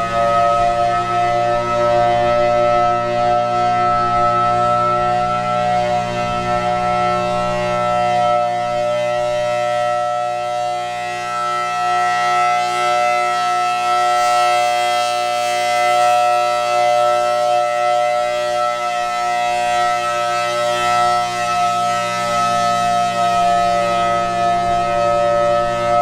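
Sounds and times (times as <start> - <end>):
warning siren steady tones: 0.0 - 26.0.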